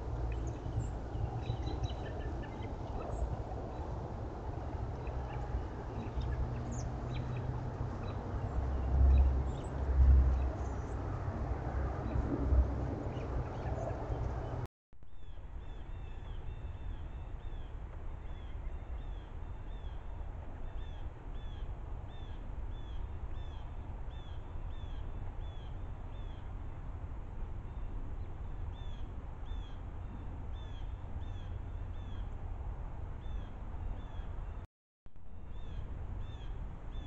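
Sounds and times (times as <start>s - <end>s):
steady low rumble: 0.0s - 34.6s.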